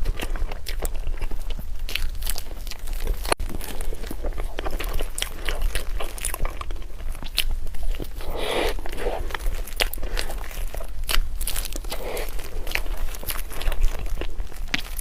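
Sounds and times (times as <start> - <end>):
crunchy chewing of food: 0.0 - 15.0
steady low hum: 0.0 - 15.0.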